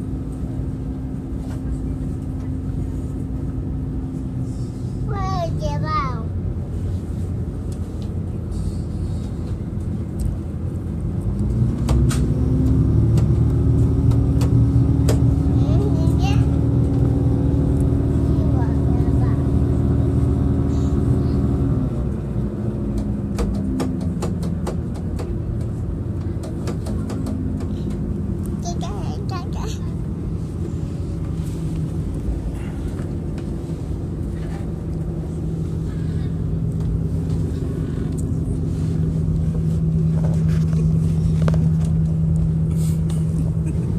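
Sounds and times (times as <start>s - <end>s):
rising hum of train: 0.0s - 43.9s
train rumbling: 0.0s - 43.9s.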